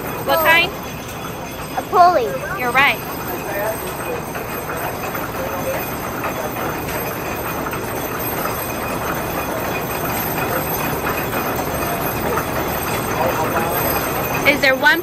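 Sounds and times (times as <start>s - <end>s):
belt-driven machinery running: 0.0s - 15.0s.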